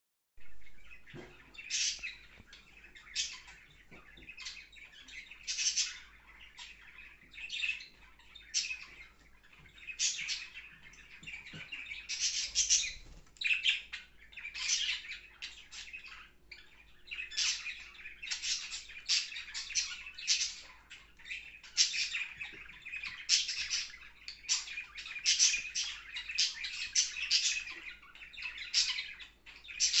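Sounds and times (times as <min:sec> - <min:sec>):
budgerigars chirping and chattering: 0:00.6 - 0:30.0.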